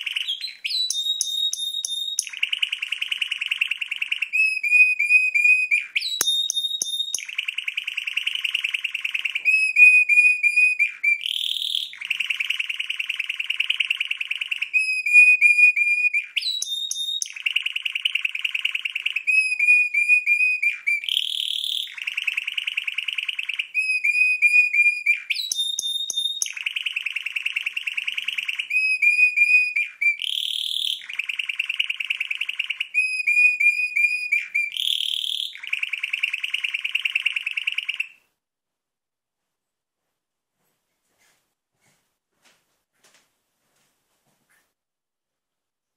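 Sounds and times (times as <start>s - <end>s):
canary singing trills: 0.0s - 38.2s.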